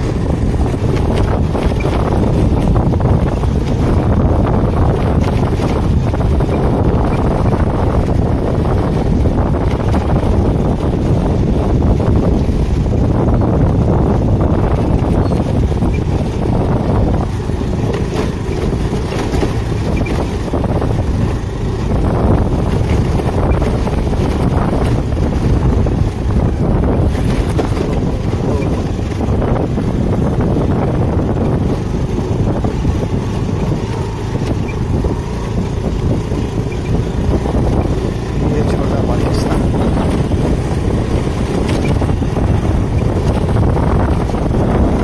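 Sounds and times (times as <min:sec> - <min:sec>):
scooter engine rumbling: 0:00.0 - 0:45.0
wind on microphone: 0:00.0 - 0:45.0.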